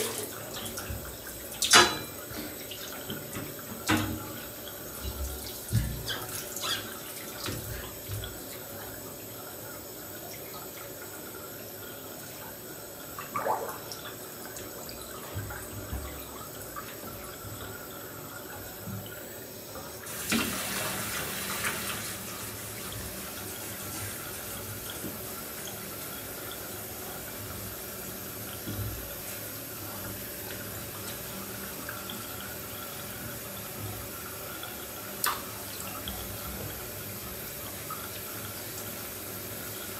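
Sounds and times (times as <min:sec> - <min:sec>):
water running into bathtub: 0:00.0 - 0:39.9.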